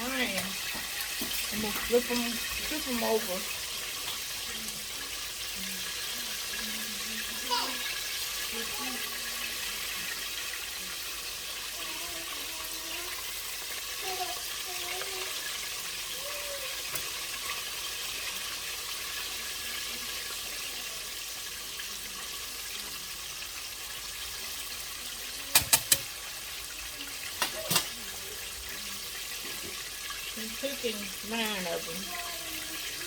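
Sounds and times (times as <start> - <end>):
deep fryer oil sizzling: 0.0 - 33.0.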